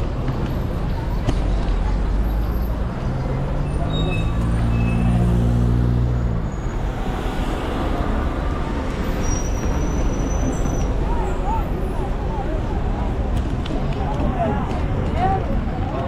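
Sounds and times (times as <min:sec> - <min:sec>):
city street noise: 0:00.0 - 0:16.0.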